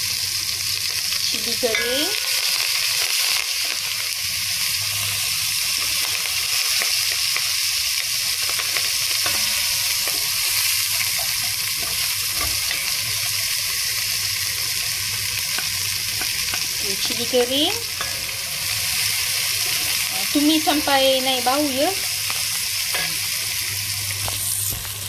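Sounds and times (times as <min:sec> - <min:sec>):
onions sizzling in hot fat: 0:00.0 - 0:25.0.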